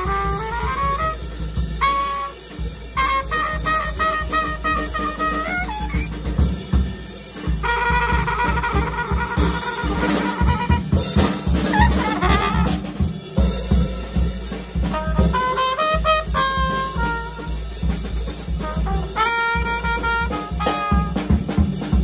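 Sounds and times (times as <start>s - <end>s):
trumpet playing: 0.0s - 13.5s, 14.7s - 17.9s, 18.5s - 21.6s
busy drumming: 0.0s - 22.0s.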